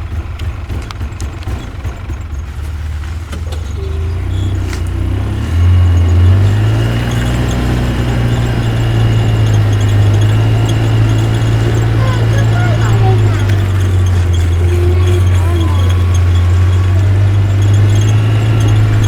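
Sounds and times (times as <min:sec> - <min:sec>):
backhoe engine revving: 0:00.0 - 0:19.0.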